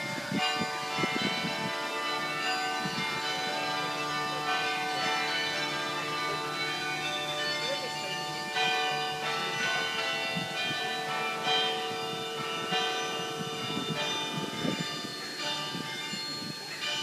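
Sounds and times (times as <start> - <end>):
carillon bells playing melody: 0.0 - 17.0.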